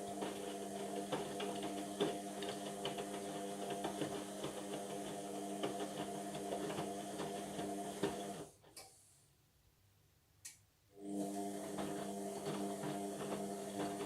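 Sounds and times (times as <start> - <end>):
washing machine motor humming: 0.0 - 8.5, 11.0 - 14.0.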